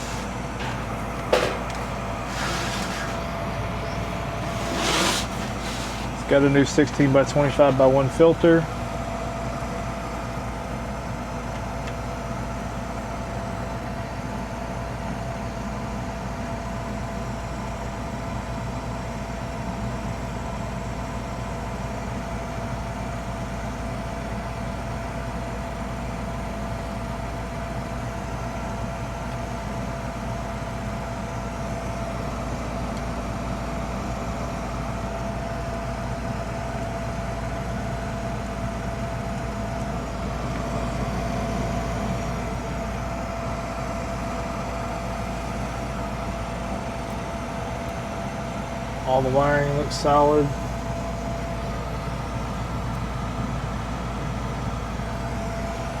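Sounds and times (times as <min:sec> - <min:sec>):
gas furnace humming: 0:00.0 - 0:56.0.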